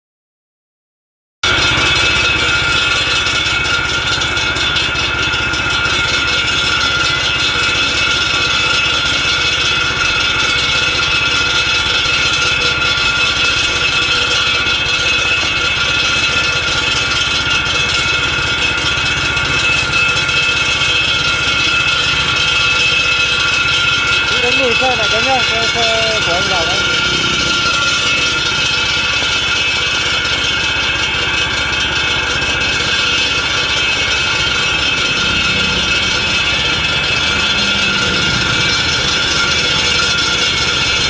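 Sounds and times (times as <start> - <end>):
concrete saw engine: 1.4 - 41.0
high saw whine: 1.4 - 41.0.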